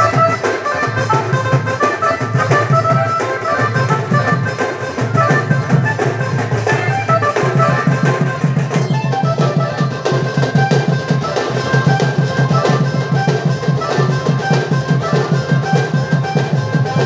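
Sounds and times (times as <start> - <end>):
loud music with drum beat: 0.0 - 17.0.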